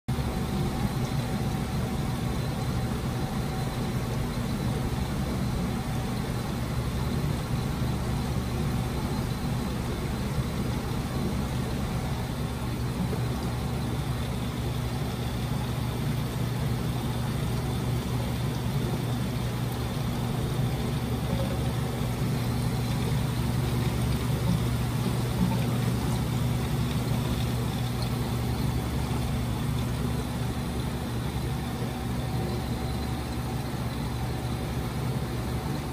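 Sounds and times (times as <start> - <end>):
pump humming: 0.1 - 35.9.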